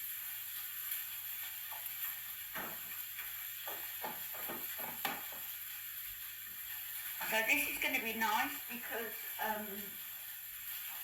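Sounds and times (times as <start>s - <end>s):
onions sizzling in a pan: 0.0s - 11.0s.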